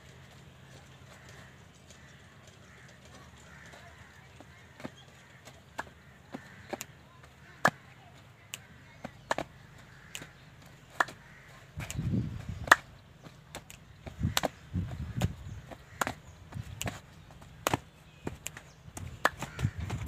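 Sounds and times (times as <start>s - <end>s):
muffled low rumbles: 0.0s - 20.0s.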